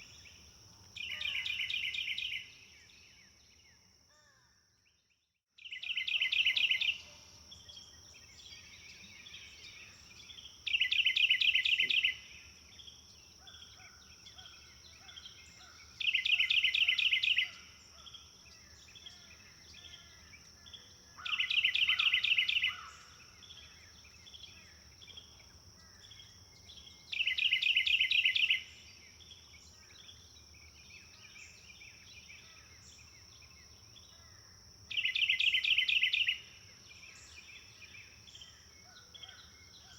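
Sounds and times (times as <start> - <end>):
songbird rapid trill: 0.0 - 3.4, 5.6 - 39.9.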